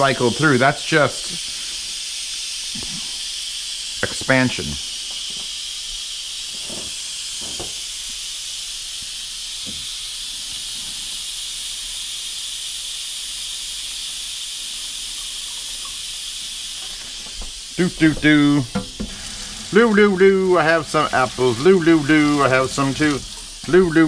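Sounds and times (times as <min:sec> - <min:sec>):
pressure cooker venting steam: 0:00.0 - 0:24.0.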